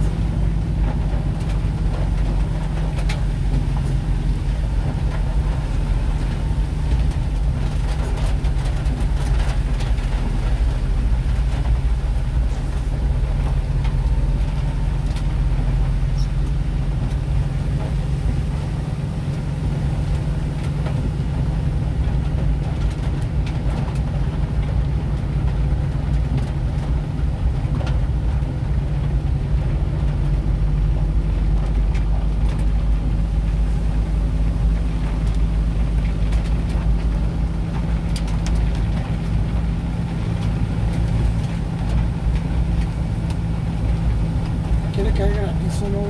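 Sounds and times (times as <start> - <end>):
car engine rumble: 0.0 - 46.0
tyres on wet pavement: 0.0 - 46.0.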